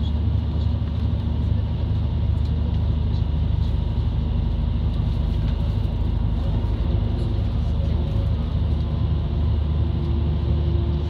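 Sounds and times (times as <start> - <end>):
train interior engine drone: 0.0 - 11.0.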